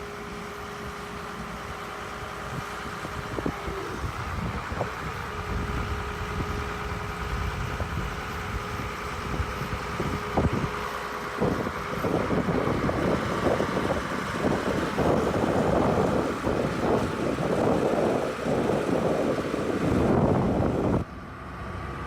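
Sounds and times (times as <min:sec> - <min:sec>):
excavator diesel engine running: 0:00.0 - 0:22.0
loud rough noise: 0:02.0 - 0:21.1.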